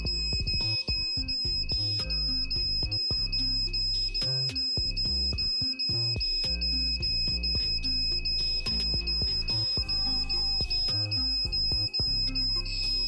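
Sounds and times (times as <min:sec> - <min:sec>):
background music: 0:00.0 - 0:13.0
high-pitched buzzer alarm tone: 0:00.0 - 0:13.0.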